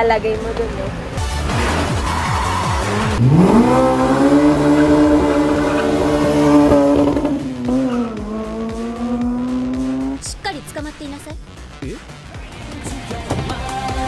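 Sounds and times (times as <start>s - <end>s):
car engine revving: 0.3s - 11.7s.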